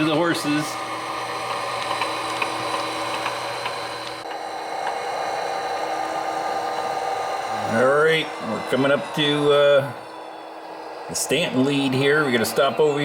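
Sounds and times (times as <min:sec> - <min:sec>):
model locomotive engine sound: 0:00.0 - 0:13.0.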